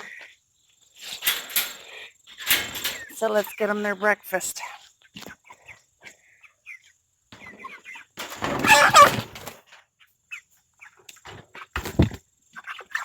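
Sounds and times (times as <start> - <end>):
chickens clucking and peeping: 0.0 - 0.5, 1.8 - 13.0.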